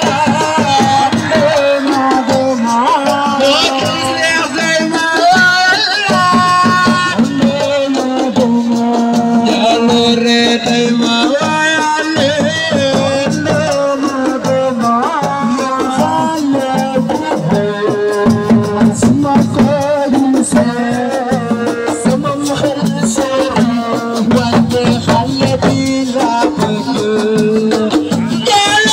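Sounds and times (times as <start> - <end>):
hand drums: 0.0 - 28.9
rattling percussion: 0.0 - 28.9.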